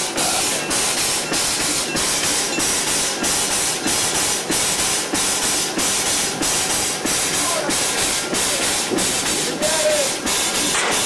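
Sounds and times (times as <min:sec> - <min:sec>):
steam hissing in rhythmic blasts: 0:00.0 - 0:11.0.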